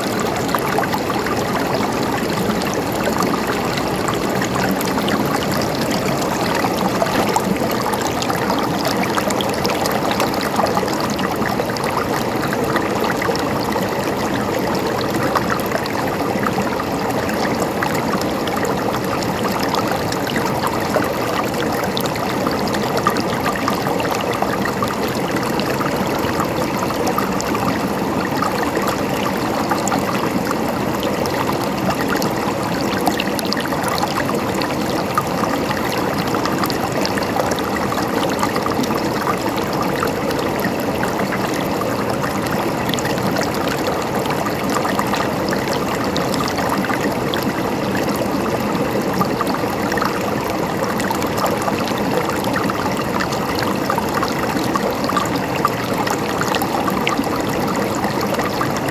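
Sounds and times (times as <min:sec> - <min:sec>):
mountain stream flowing: 0:00.0 - 0:58.9.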